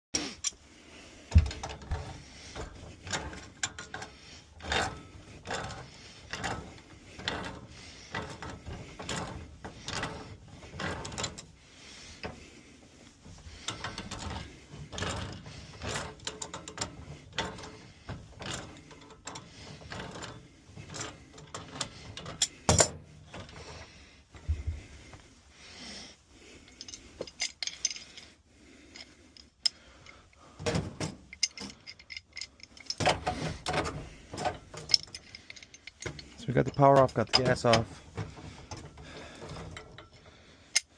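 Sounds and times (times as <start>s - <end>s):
hand tools and metal parts clinking: 0.2s - 25.5s, 26.4s - 40.9s.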